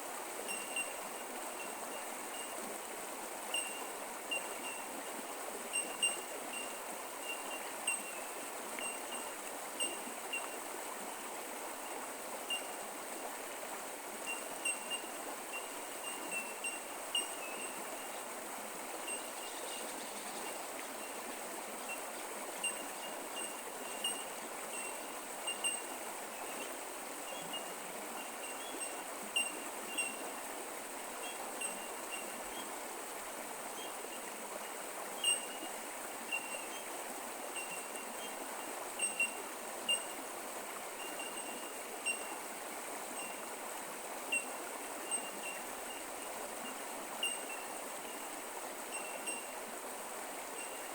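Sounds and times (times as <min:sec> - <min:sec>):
creek water trickling: 0:00.0 - 0:50.9.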